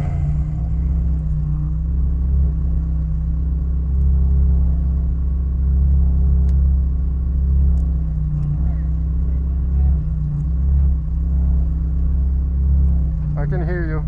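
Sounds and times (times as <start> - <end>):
race car engine rumble: 0.0 - 14.0.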